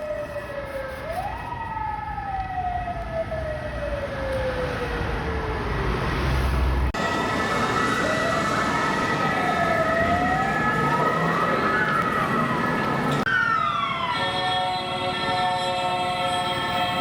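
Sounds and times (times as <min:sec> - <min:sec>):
ambulance siren wailing: 0:00.0 - 0:05.9, 0:06.9 - 0:17.0.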